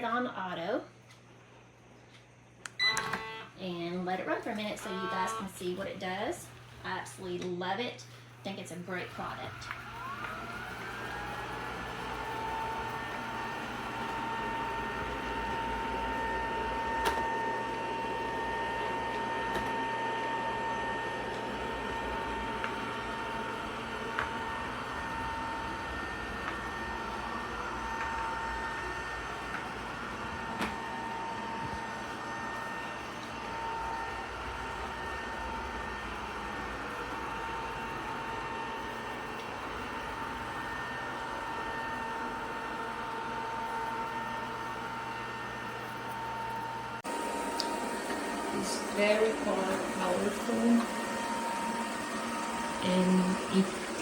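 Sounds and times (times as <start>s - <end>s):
robot vacuum motor whine: 2.8s - 3.5s, 4.3s - 6.7s, 8.9s - 54.0s.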